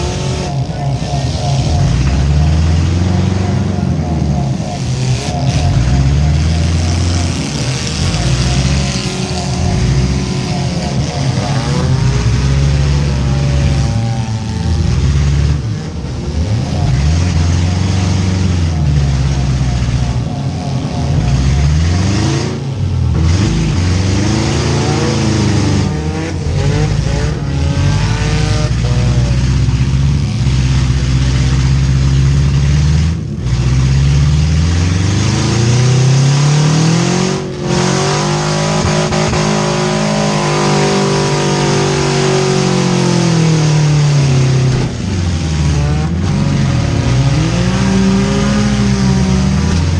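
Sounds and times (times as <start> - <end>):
car engines revving: 0.0 - 49.9.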